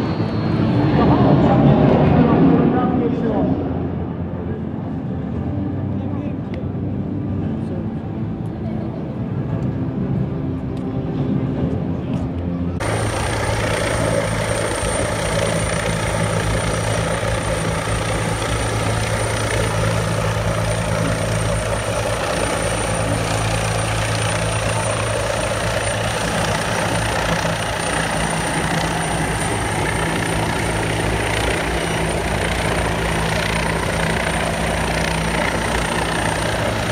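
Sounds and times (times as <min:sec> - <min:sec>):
helicopter turbine and rotor hum: 0:00.0 - 0:36.9.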